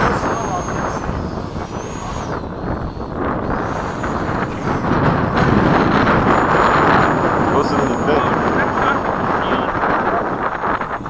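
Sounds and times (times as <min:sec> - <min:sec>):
model plane motor whine: 0:00.0 - 0:11.0
wind buffeting microphone: 0:00.0 - 0:11.0.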